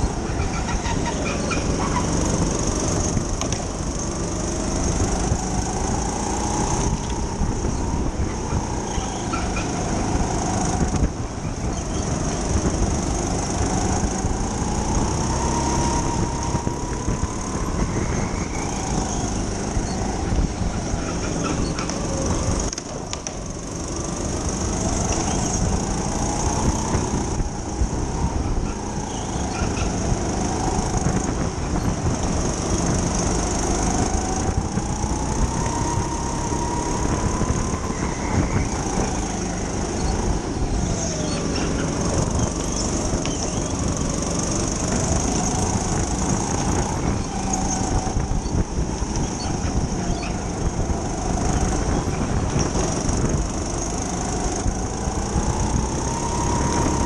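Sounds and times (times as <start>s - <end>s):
go-kart motor revving: 0.0s - 57.0s.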